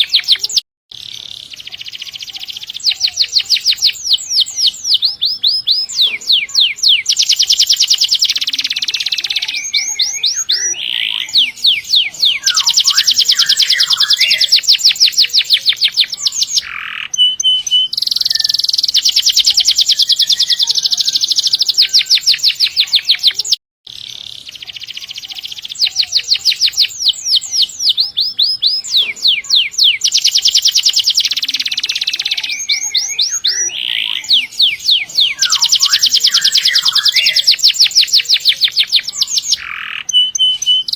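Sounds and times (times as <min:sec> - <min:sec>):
canary trilling: 0:00.0 - 0:40.9.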